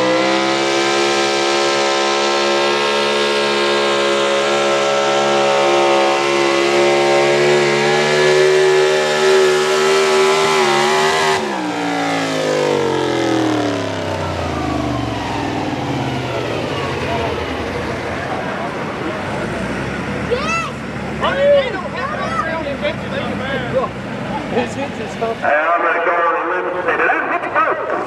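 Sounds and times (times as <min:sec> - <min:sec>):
engine spinning down: 0:00.0 - 0:25.4
truck engine at high revs: 0:00.0 - 0:28.0.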